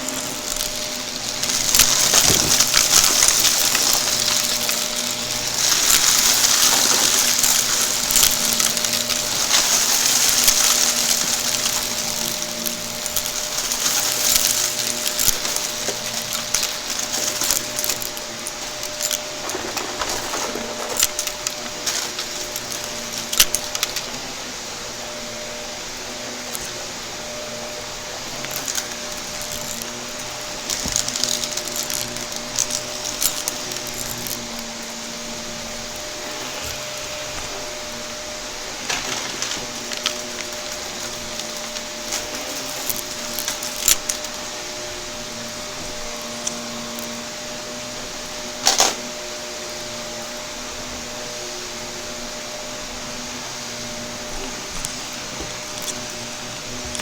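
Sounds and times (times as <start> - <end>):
debris crackling in vacuum: 0.0 - 57.0
vacuum cleaner humming: 0.0 - 57.0.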